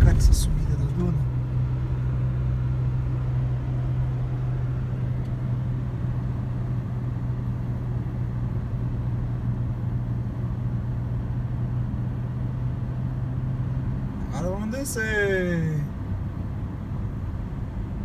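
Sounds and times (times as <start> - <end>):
car engine drone: 0.0 - 18.0
road noise: 0.0 - 18.0.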